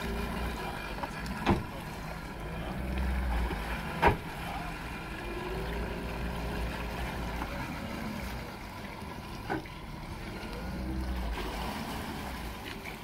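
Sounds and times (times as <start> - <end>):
outboard motor rumbling: 0.0 - 13.0
propeller churning water: 0.0 - 13.0.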